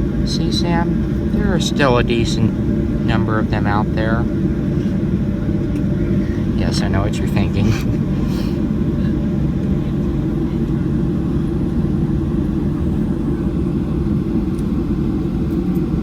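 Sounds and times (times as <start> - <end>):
airplane cabin rumble while taxiing: 0.0 - 16.0.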